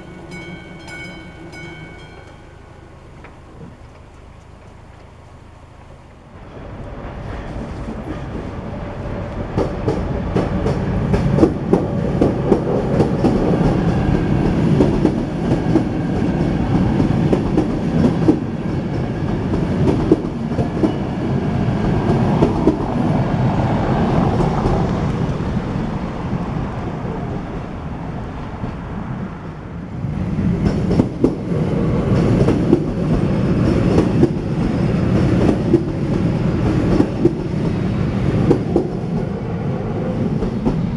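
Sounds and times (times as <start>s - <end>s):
clicking over rail joints: 0.0s - 21.0s, 21.7s - 39.4s
train wheels rumbling on rails: 0.0s - 40.9s.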